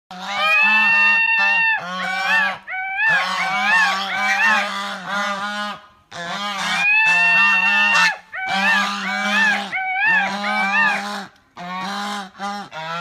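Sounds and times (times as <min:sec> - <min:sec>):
geese honking: 0:00.1 - 0:13.0.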